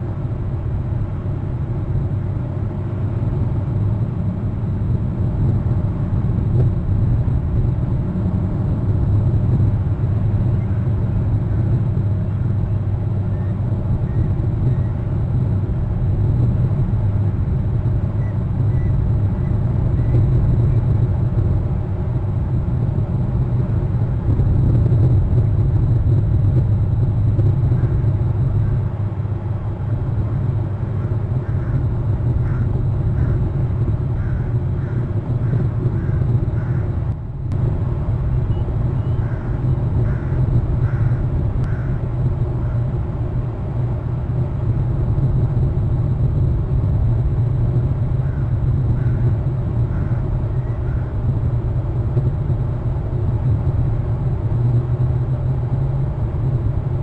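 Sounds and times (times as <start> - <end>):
wind buffeting microphone: 4.6 - 55.2.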